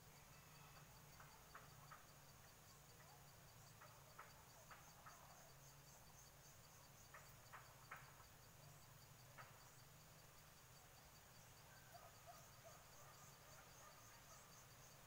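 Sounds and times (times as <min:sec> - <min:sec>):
insect chirping in pulses: 0:00.0 - 0:15.0.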